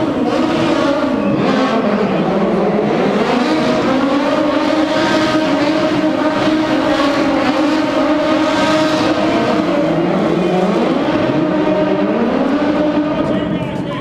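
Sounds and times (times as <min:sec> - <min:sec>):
motorcycle engine revving high: 0:00.0 - 0:13.6.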